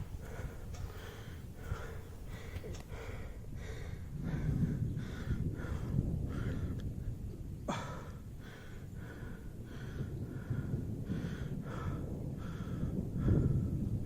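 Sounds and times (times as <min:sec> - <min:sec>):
person panting: 0:00.0 - 0:06.8, 0:07.7 - 0:13.8
low rumble: 0:00.0 - 0:14.0.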